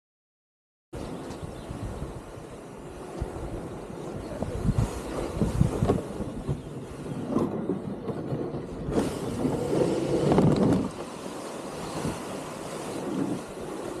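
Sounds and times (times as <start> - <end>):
water moving around kayak: 1.0 - 14.0
wind buffeting camera microphone: 1.0 - 14.0.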